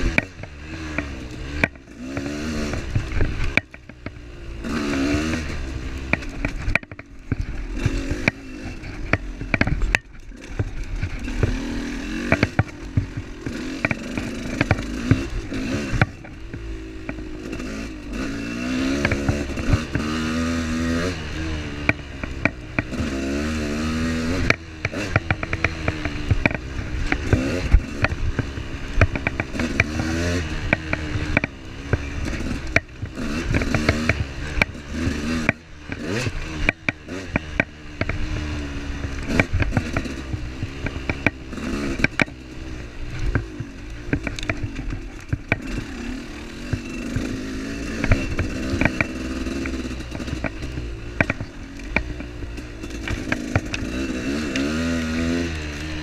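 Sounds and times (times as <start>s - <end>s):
vehicle rattles and knocks: 0.0s - 20.9s, 21.7s - 56.0s
vehicle engine revving: 0.0s - 56.0s.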